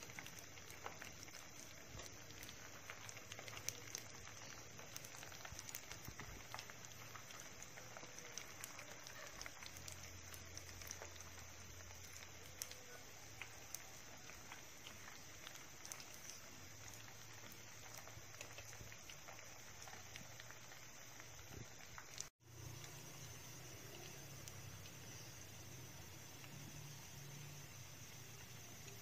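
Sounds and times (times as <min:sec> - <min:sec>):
rice balls frying in oil: 0:00.0 - 0:29.0.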